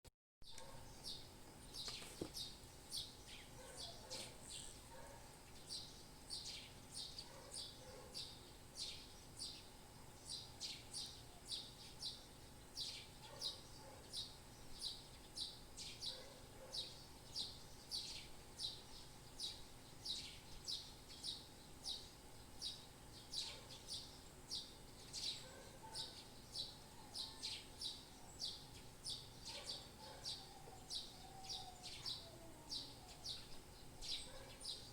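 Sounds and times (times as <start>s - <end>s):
small birds chirping: 0.4s - 34.9s
faint background hum: 0.5s - 34.9s.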